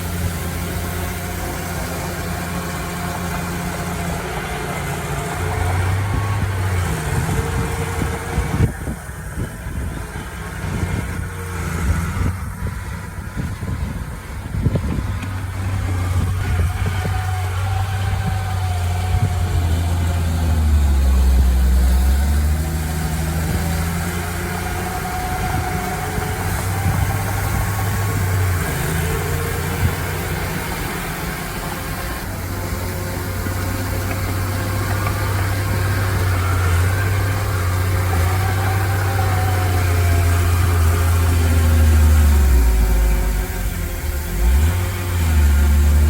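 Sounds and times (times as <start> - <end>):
heavy diesel engine droning: 0.0 - 46.0.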